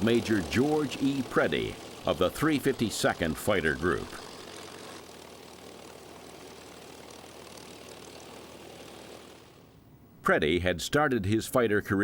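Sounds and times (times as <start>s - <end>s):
propeller aircraft engine droning: 0.0s - 10.1s.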